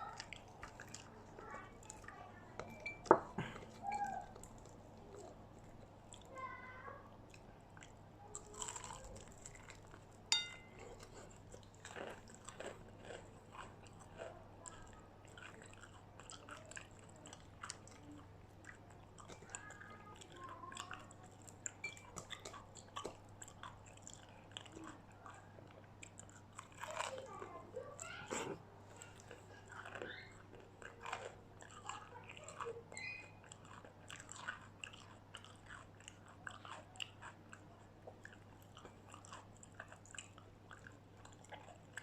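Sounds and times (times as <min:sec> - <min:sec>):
crunchy chewing: 0:00.0 - 0:42.0.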